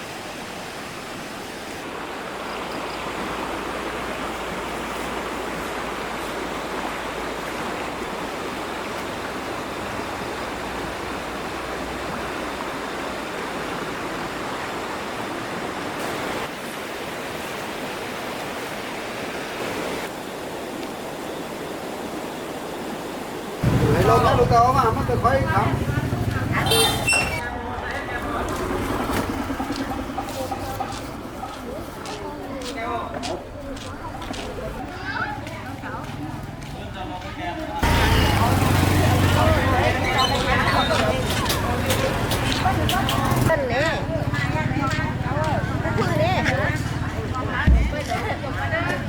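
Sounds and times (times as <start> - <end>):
water rushing: 0.0 - 35.5, 37.6 - 48.9.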